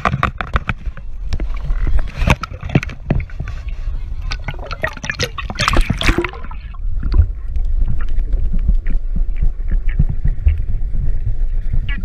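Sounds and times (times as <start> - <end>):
muffled underwater rumble: 0.0 - 12.0
water splashing: 0.8 - 10.6.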